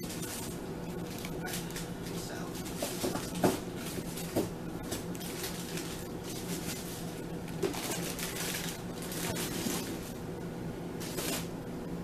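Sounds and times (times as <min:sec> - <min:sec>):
plastic packaging crinkling: 0:00.0 - 0:10.2, 0:11.0 - 0:11.5
steady low hum: 0:00.0 - 0:12.0.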